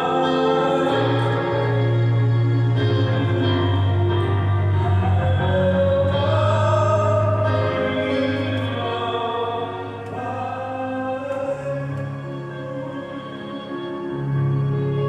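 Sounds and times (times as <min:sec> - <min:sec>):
electronic keyboard chords: 0:00.0 - 0:15.0.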